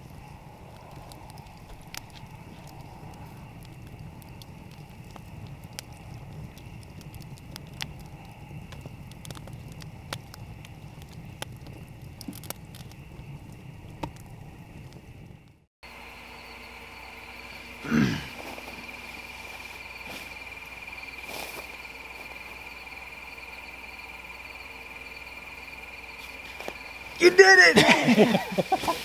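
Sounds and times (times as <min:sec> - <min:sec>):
campfire crackling and popping: 0:00.0 - 0:29.0
insects trilling: 0:00.0 - 0:29.0
low rush of flames: 0:00.0 - 0:29.0.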